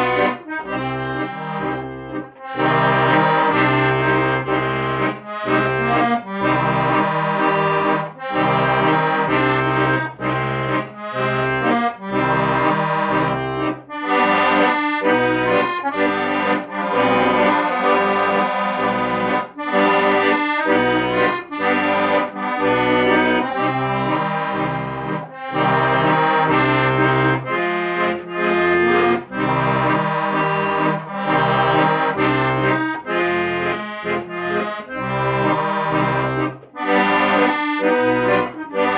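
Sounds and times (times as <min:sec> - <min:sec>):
accordion melody: 0:00.0 - 0:38.9.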